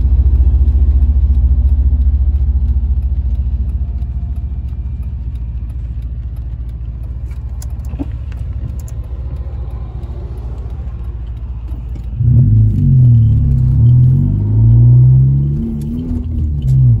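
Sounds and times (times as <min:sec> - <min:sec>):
car engine idling and pulling away: 0:00.0 - 0:17.0.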